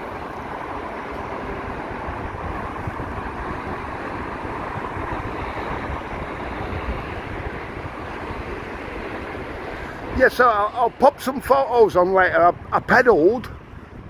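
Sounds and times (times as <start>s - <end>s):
steady background rush: 0.0s - 14.0s
wind buffeting microphone: 0.0s - 14.0s.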